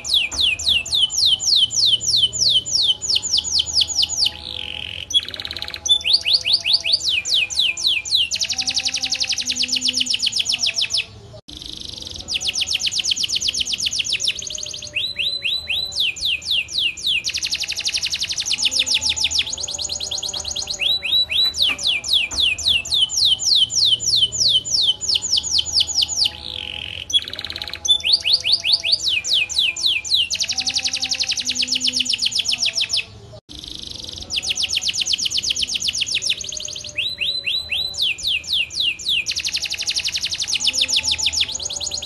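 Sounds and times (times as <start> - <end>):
canary singing trills: 0.0 - 42.0.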